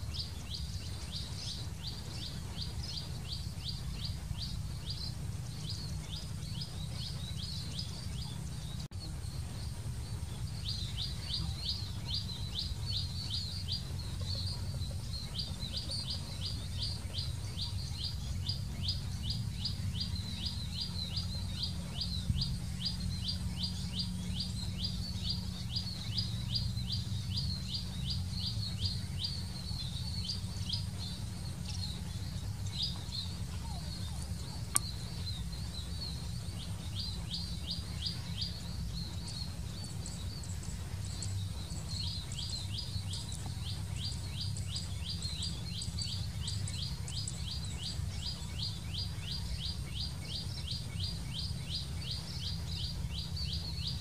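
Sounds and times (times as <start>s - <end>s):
low rumble: 0.0s - 54.0s
small bird chirping: 0.0s - 54.0s.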